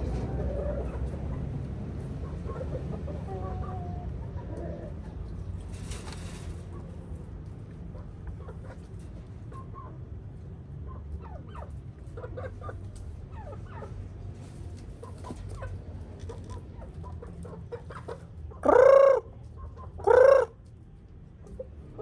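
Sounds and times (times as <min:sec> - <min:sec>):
chickens clucking softly: 0:00.0 - 0:05.7, 0:06.7 - 0:22.0.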